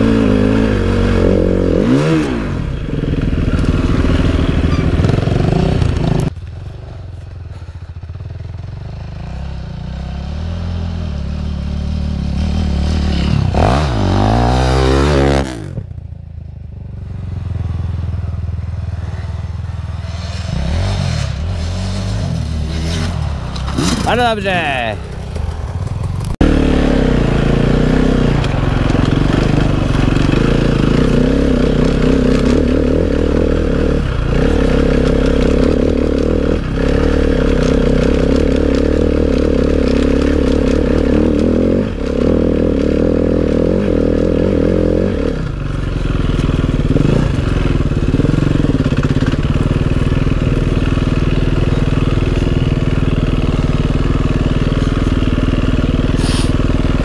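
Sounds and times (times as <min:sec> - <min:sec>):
motorcycle engine running under load: 0:00.0 - 0:57.0.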